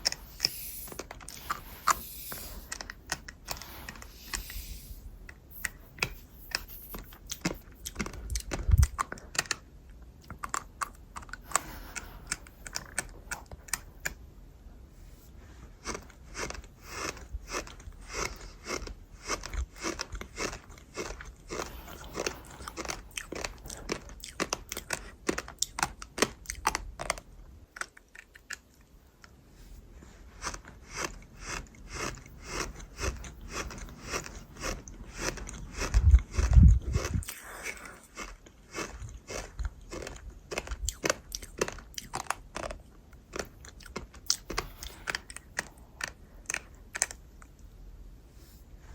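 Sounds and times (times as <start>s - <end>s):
crisp crunching and chewing: 0.0s - 14.2s, 15.5s - 47.7s.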